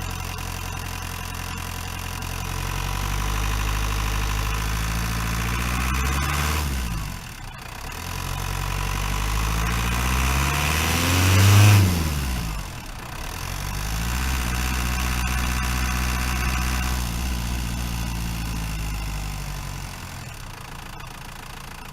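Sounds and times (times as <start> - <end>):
diesel van engine driving: 0.0 - 21.9.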